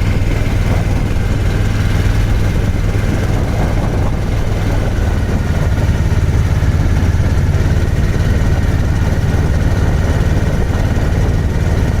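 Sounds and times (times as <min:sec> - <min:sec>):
boat engine pulsing: 0:00.0 - 0:12.0.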